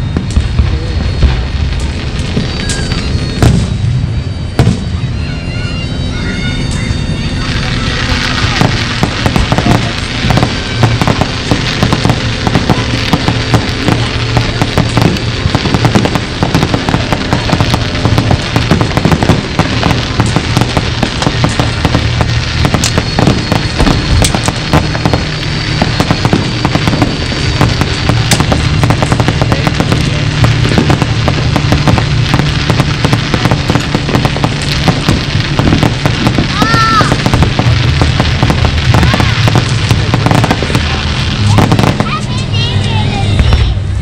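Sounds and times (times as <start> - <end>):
deep fireworks booms: 0.0 - 5.2, 6.0 - 44.0
fireworks bangs and crackles: 0.0 - 44.0.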